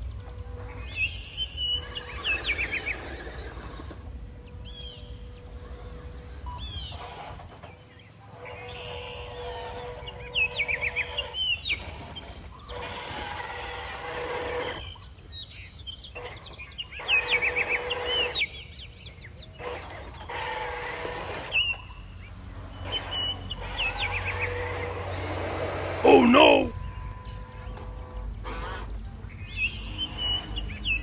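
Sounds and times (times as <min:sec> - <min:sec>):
small electric motor whining: 0:00.0 - 0:29.2.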